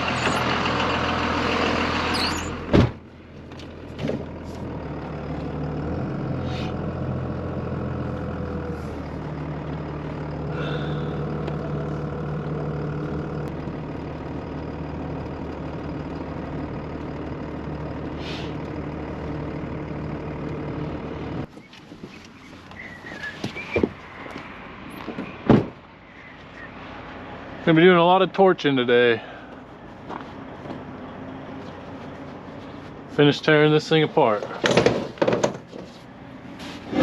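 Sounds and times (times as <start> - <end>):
vehicle engine running: 0.0 - 25.1, 25.8 - 37.0.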